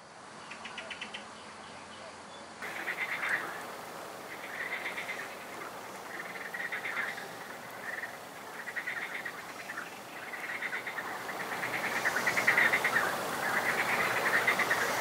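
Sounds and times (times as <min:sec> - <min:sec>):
frogs calling: 0:00.4 - 0:15.0
insects trilling: 0:02.6 - 0:15.0.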